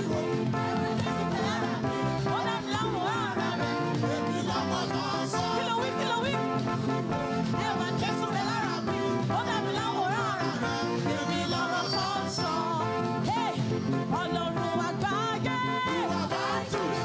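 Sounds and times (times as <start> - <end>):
church band playing praise music: 0.0 - 17.0.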